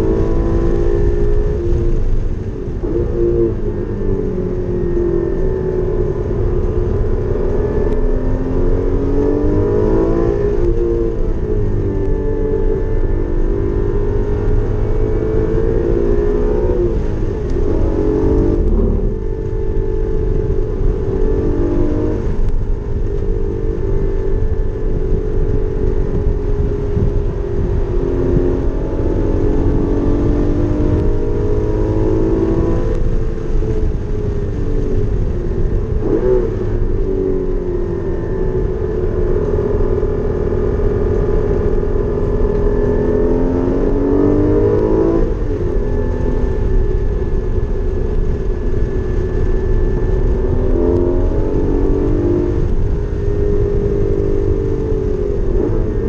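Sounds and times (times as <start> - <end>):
road and wind noise: 0.0 - 56.0
sports car engine accelerating: 0.0 - 56.0.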